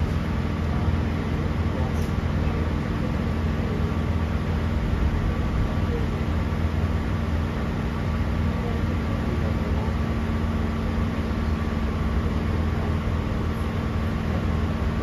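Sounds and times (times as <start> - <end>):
electric train interior rumble: 0.0 - 15.0.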